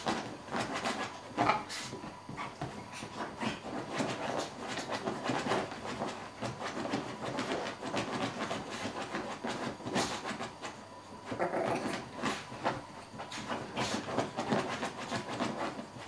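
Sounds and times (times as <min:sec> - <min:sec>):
dog rubbing on fabric: 0:00.0 - 0:10.8, 0:11.8 - 0:16.0.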